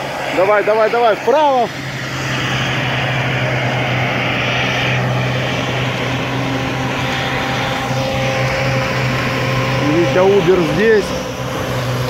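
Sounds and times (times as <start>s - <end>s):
car engine under load: 0.0s - 12.0s
tyres churning through snow: 0.0s - 12.0s.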